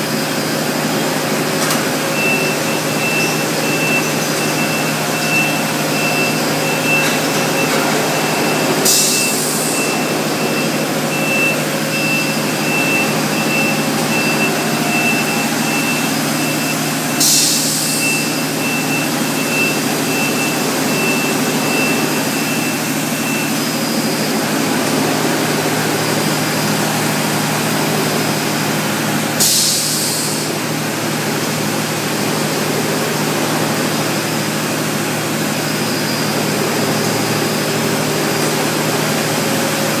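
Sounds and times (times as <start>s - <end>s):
washing machinery humming: 0.0s - 40.0s.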